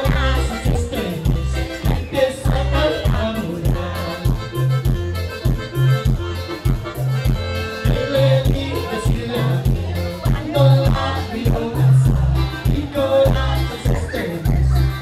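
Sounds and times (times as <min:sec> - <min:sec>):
accordion-like melody: 0:00.0 - 0:15.0
steady bass beat: 0:00.0 - 0:15.0.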